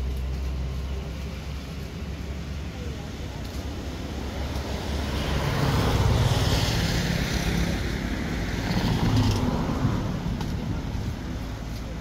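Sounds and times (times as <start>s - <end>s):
vehicle engine rumble passing: 0.0s - 12.0s.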